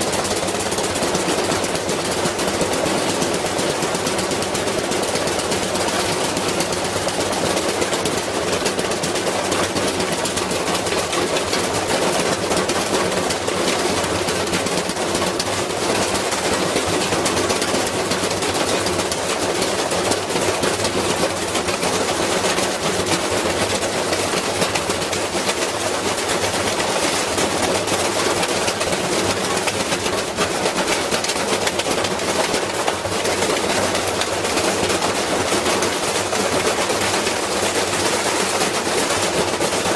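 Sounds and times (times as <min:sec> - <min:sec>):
washing machine with weight clattering: 0:00.0 - 0:39.9.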